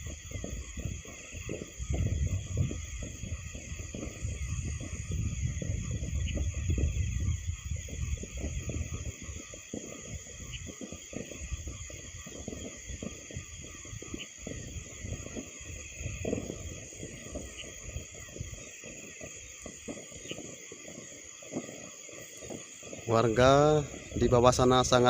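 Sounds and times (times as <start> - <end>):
insects chirring: 0.0 - 25.0
wind buffeting microphone: 0.0 - 25.0.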